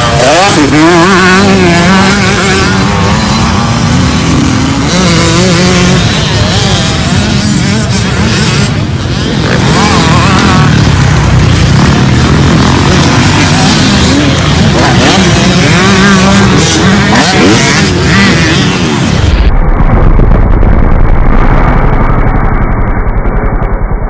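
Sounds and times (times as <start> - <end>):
dirt bike engine revving: 0.0 - 19.6.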